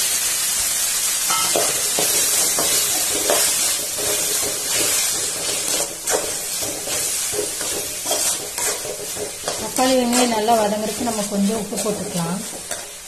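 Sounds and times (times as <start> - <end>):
vegetables sizzling in oil: 0.0 - 13.0
metal spatula scraping pan: 1.3 - 13.0.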